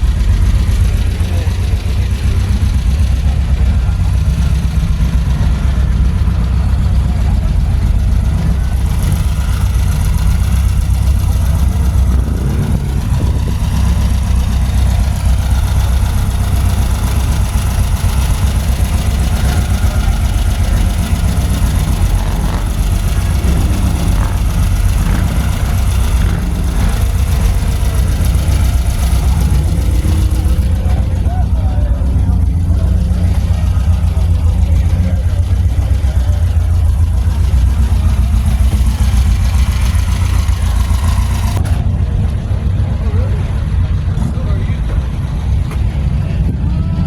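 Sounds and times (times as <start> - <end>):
car engines idling: 0.0 - 47.0.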